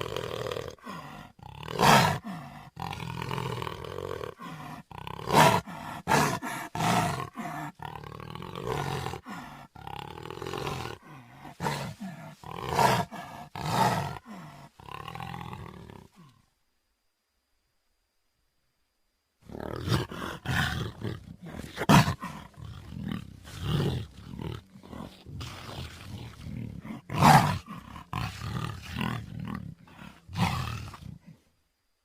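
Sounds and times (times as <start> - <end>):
jaguar roaring and growling: 0.0 - 16.3, 19.4 - 31.4.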